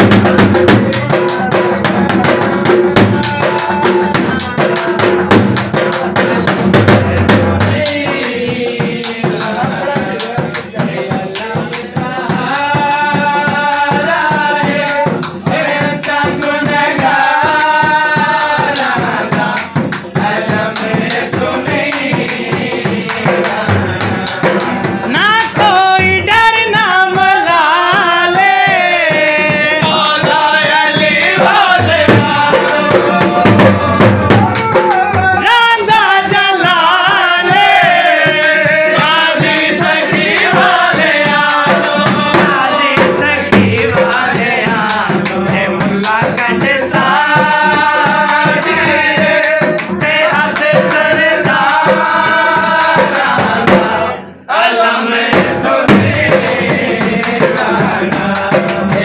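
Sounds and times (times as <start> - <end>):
dhol drumming: 0.0 - 59.0
person singing: 0.0 - 59.0.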